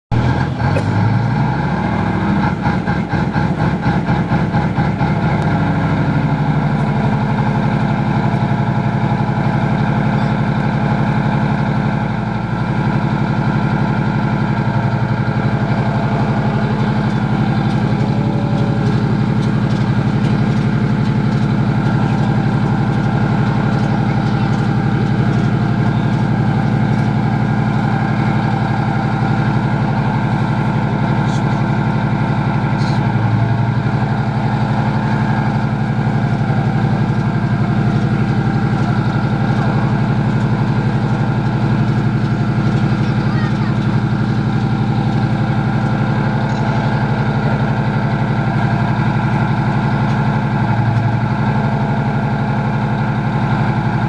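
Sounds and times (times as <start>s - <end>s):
tank diesel engine idling: 0.1s - 54.0s.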